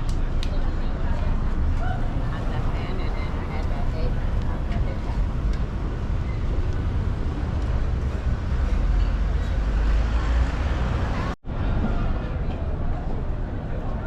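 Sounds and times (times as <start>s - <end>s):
low city rumble: 0.0s - 14.0s.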